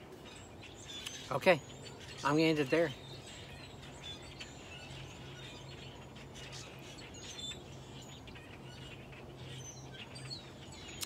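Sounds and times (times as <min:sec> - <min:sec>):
bird chirps: 0:00.0 - 0:11.0
low steady hum: 0:00.0 - 0:11.0.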